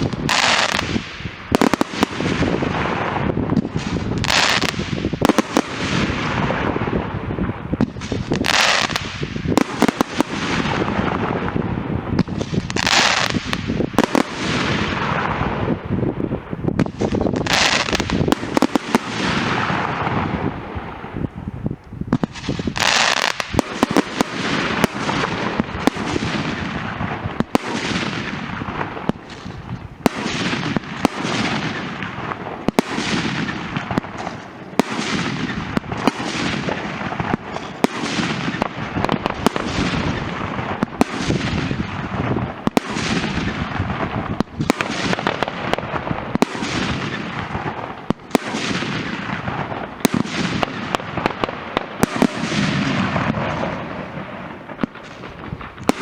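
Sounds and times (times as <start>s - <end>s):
fireworks bangs: 0.0s - 56.0s
fireworks crackling hiss: 0.0s - 56.0s.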